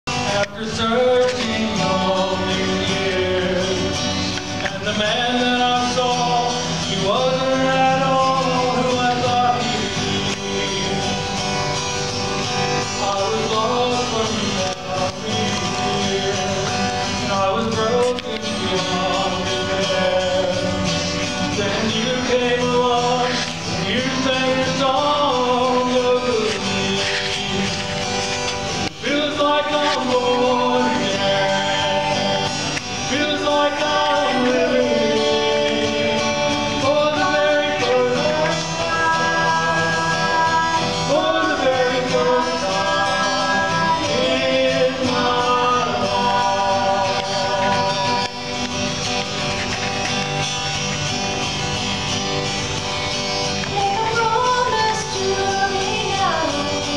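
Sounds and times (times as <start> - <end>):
strummed acoustic guitar: 0.0 - 56.9
man and woman singing: 0.1 - 11.6, 12.8 - 48.9, 53.5 - 56.9.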